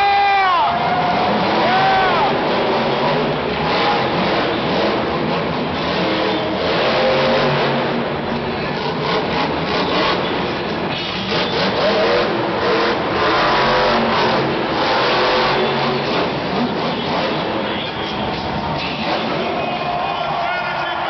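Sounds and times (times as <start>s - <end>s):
truck engine revving hard: 0.5s - 19.8s.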